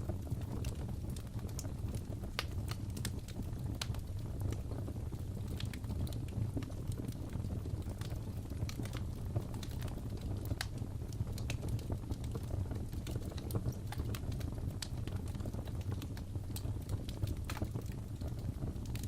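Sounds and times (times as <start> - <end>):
fireplace crackling: 0.0 - 19.0.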